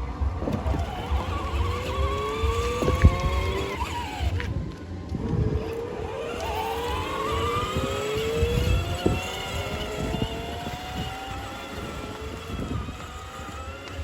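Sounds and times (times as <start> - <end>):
vehicle motor speeding up: 0.0 - 14.0.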